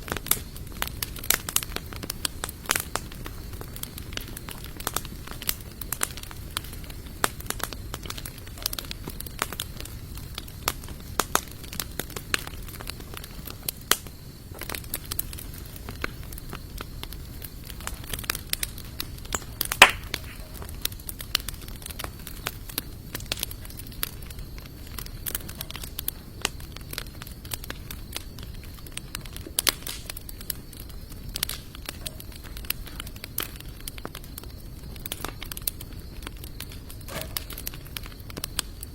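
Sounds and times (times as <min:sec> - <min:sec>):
logs crackling in a campfire: 0:00.0 - 0:38.9.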